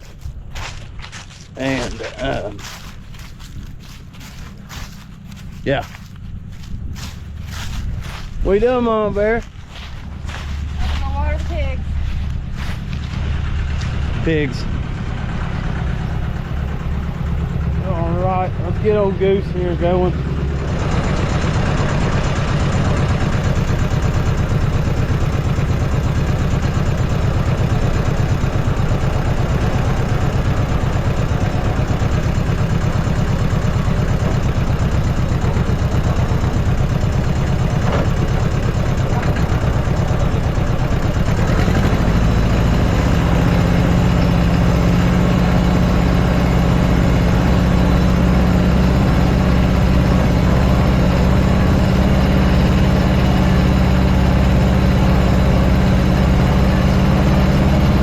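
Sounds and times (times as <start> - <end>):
farm machine engine idling: 0.0 - 58.0.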